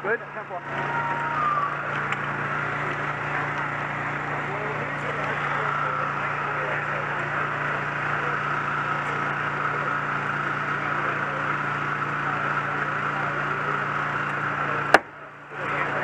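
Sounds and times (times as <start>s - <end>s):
engine running with whine: 0.0s - 16.0s.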